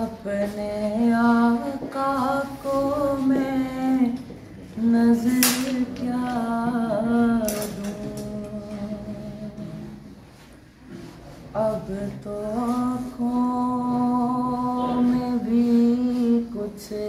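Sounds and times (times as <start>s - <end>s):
boy singing unaccompanied: 0.0s - 10.0s, 11.6s - 17.0s.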